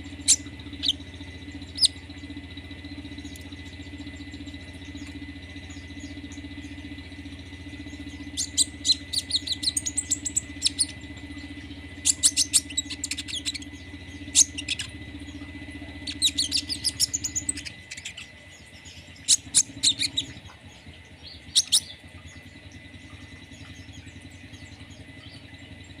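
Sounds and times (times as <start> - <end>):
songbird rattling song: 0.0 - 26.0
steady low hum: 0.0 - 26.0.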